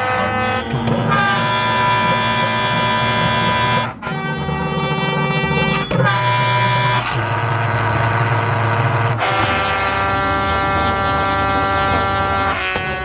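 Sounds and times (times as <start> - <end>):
calliope pipes playing chords: 0.0 - 13.0.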